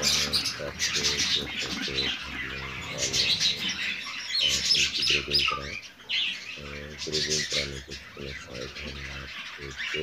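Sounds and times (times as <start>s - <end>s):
low murmuring voice-like sounds: 0.0s - 5.8s, 6.6s - 10.0s
parakeet nestlings calling harshly: 0.0s - 10.0s.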